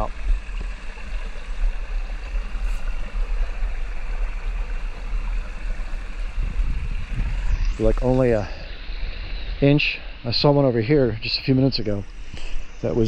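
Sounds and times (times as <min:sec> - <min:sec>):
water rushing in a pond: 0:00.0 - 0:13.0.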